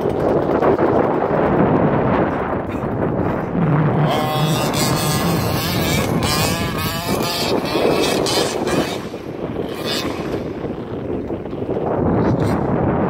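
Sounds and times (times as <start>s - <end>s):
rc truck engine revving: 0.0s - 11.7s
wind buffeting microphone: 0.0s - 13.0s.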